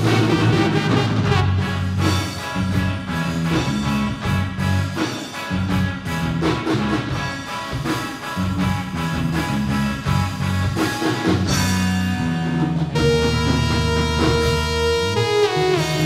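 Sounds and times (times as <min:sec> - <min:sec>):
live band instrumental jam: 0:00.0 - 0:16.0.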